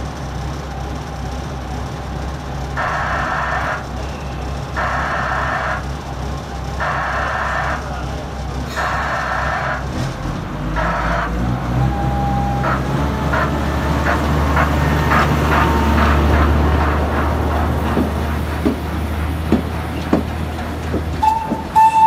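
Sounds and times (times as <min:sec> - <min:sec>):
locomotive puffing beat: 0:00.0 - 0:22.0
low engine drone: 0:00.0 - 0:22.0.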